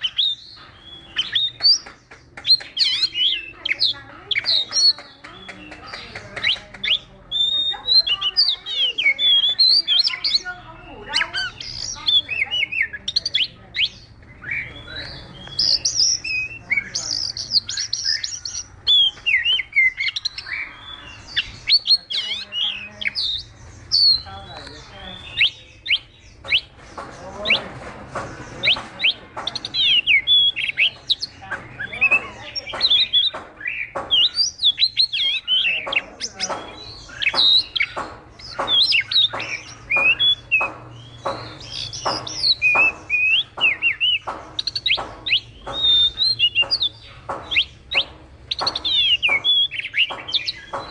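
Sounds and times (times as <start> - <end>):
bird singing whistled song: 0.0 - 27.6, 28.6 - 50.9.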